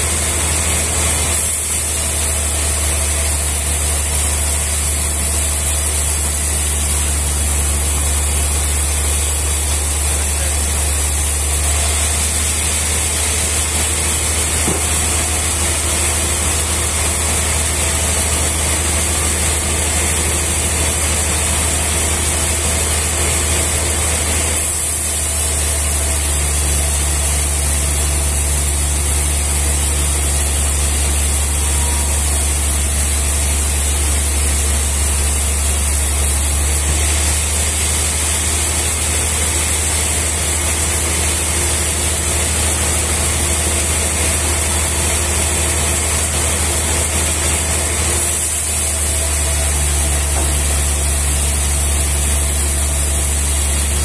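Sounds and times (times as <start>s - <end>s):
band sawmill sawing log: 0.0s - 54.0s.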